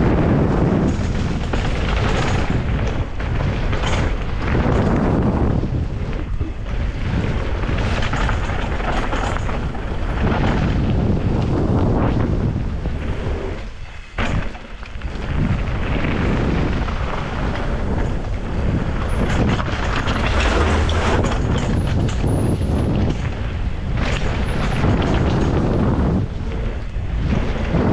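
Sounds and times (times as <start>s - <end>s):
bike rattling: 0.0s - 27.9s
tyre noise on trail: 0.0s - 27.9s
wind buffeting microphone: 0.0s - 27.9s.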